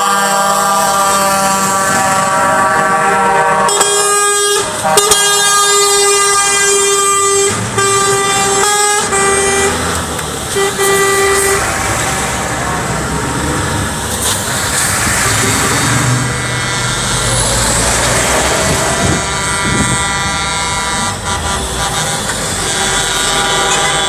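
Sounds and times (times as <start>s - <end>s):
truck air horn blasts: 0.0s - 12.1s, 14.8s - 24.0s
truck engine: 0.0s - 24.0s.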